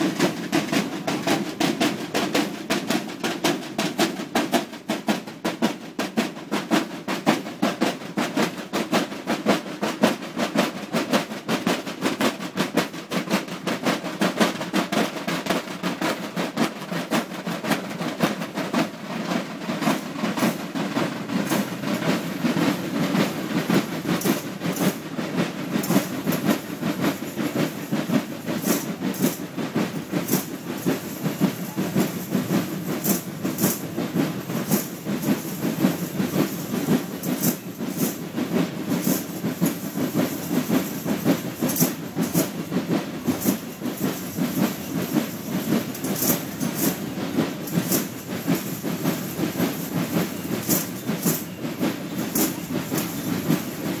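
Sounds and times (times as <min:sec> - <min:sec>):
dense steady clatter: 0:00.0 - 0:54.0.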